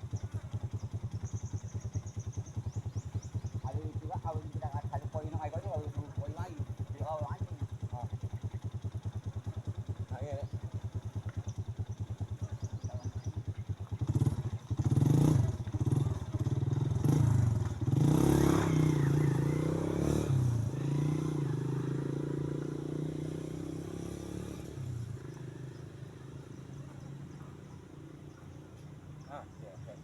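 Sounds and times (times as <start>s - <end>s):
small engine revving: 0.0s - 30.0s.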